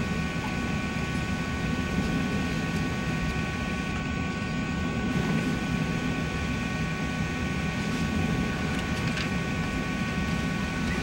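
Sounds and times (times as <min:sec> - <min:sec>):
aircraft engines rumbling: 0:00.0 - 0:11.0.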